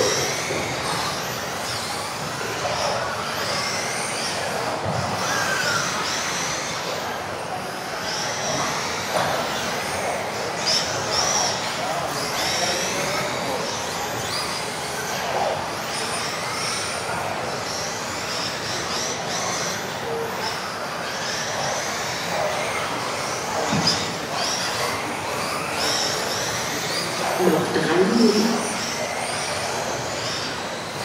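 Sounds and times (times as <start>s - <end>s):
rc car motors whining: 0.0s - 31.0s.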